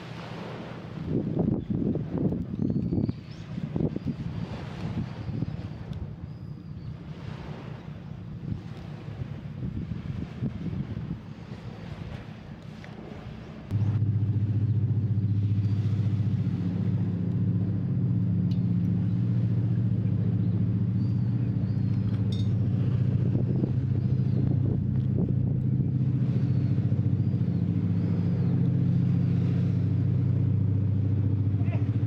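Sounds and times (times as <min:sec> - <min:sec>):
low motor drone: 0:00.0 - 0:32.0.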